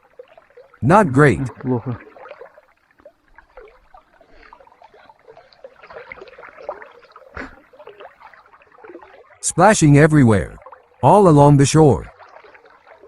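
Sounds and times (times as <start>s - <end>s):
river water gurgling around boat: 0.0s - 13.0s.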